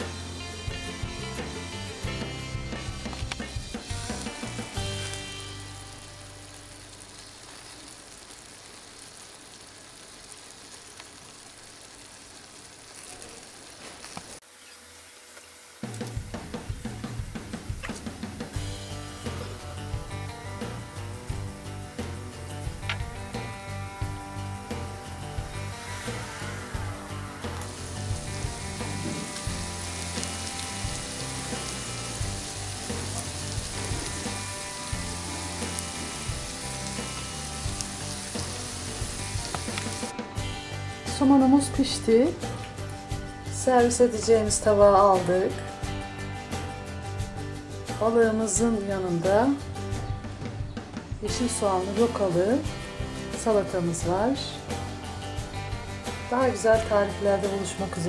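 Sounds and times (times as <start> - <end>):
butter and water sizzling: 0.0 - 58.0.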